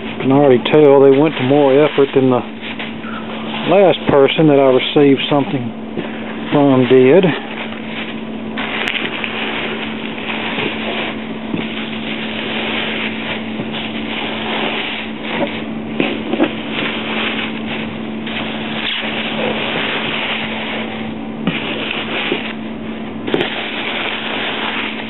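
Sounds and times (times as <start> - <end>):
bubble wrap and bags crinkling: 0.0 - 25.0.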